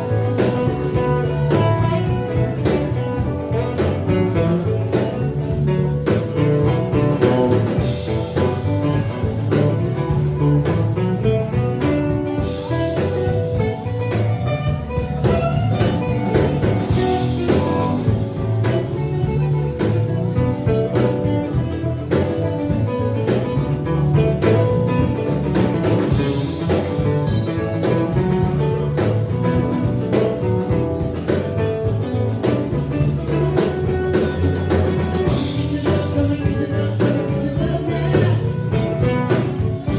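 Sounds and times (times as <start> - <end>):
blues music with guitar and drums: 0.0 - 39.9.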